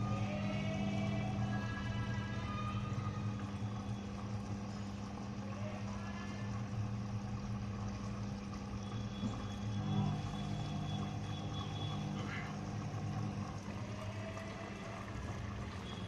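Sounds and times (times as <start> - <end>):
washing machine hum: 0.0 - 16.0.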